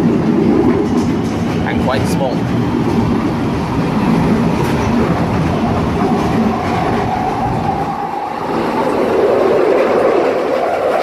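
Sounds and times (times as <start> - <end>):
train whine: 0.0 - 11.0
underground train rumble and rattle: 0.0 - 11.0.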